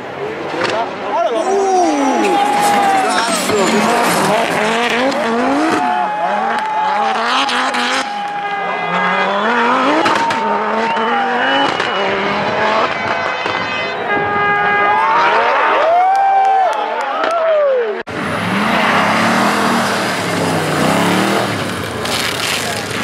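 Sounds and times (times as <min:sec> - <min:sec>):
rally car engine accelerating: 0:00.0 - 0:13.7, 0:18.1 - 0:23.0.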